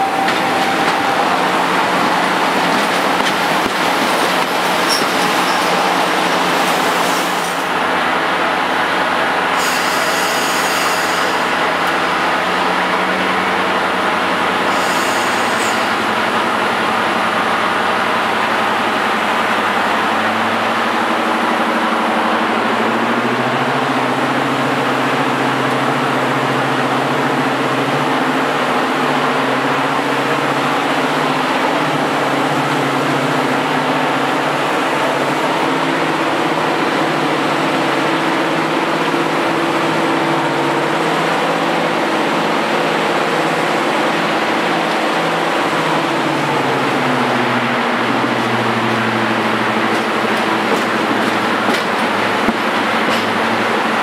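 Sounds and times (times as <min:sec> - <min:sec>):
diesel locomotive engine throbbing: 0:00.0 - 0:54.0.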